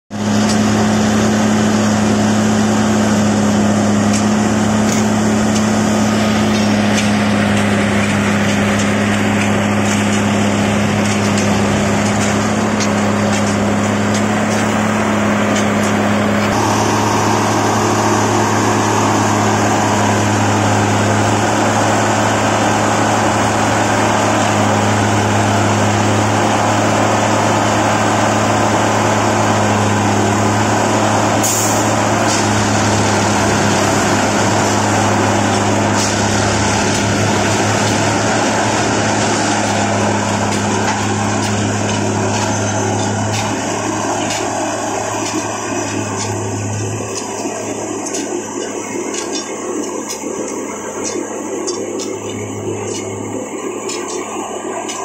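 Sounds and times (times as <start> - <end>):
machine engine and hydraulics drone: 0.1 - 55.0.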